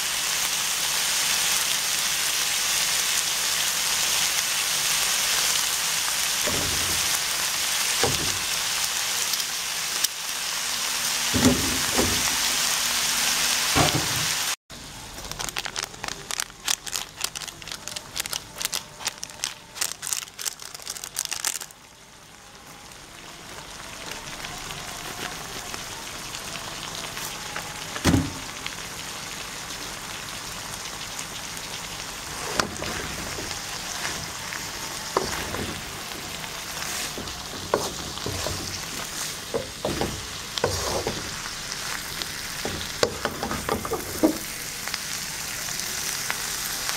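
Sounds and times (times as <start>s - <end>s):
noodles sizzling in wok: 0.0s - 46.9s.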